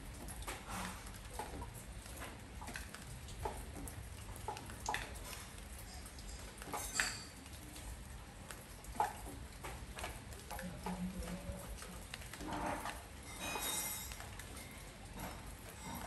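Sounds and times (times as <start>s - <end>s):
rain dripping on a porch: 0.0s - 16.0s.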